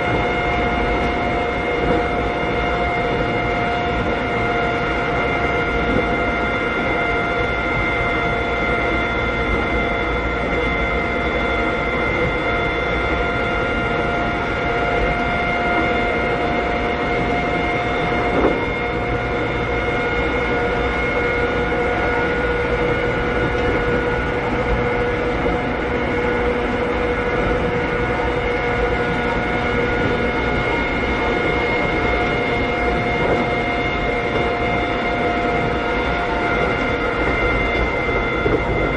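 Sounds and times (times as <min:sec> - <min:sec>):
electric train motor whine: 0:00.0 - 0:38.9
wheels rumbling on rails: 0:00.0 - 0:38.9.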